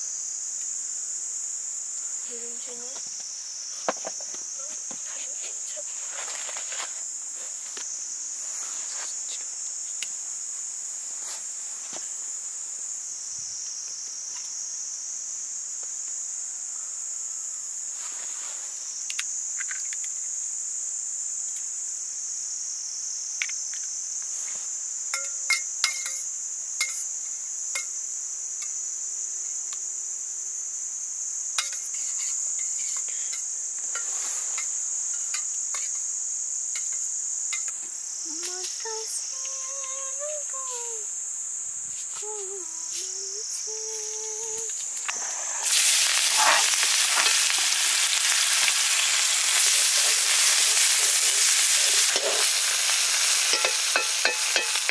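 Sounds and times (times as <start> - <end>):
insects buzzing: 0.0 - 54.9.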